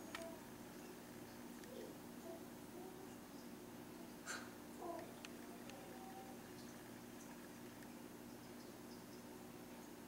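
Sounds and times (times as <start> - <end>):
faint hum and hiss: 0.0 - 10.0.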